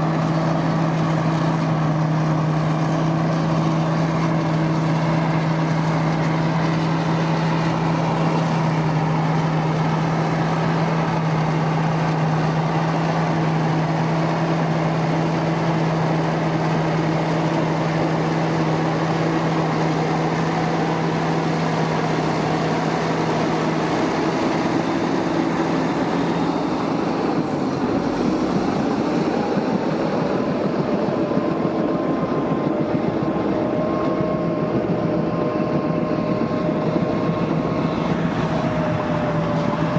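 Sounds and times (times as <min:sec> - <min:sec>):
crawler tractor diesel engine: 0:00.0 - 0:39.9.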